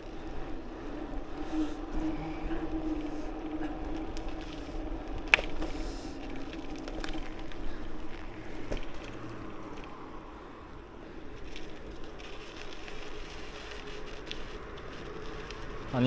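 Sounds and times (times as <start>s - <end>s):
bicycle rolling: 0.0s - 16.0s
low hum: 0.0s - 16.0s.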